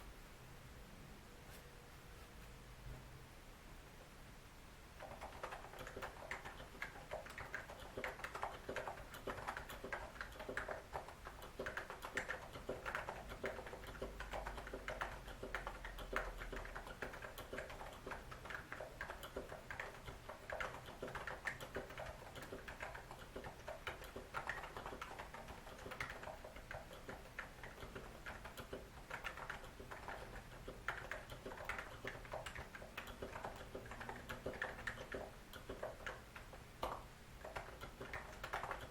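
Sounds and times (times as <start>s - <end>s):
fast typing on keyboard: 5.0s - 38.9s.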